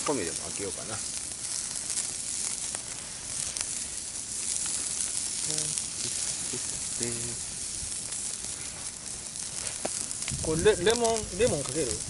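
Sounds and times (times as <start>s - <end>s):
food sizzling on grill: 0.0s - 12.0s
wood fire crackles: 0.0s - 12.0s.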